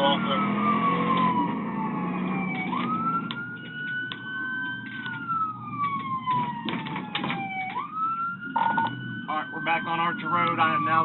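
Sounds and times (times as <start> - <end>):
police siren wailing: 0.0 - 11.0
road noise: 0.0 - 11.0.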